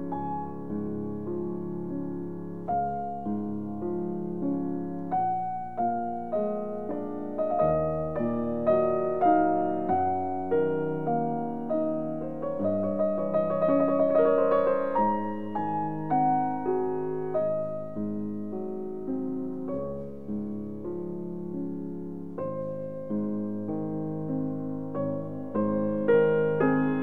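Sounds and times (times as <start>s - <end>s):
piano playing notes and chords: 0.0s - 27.0s.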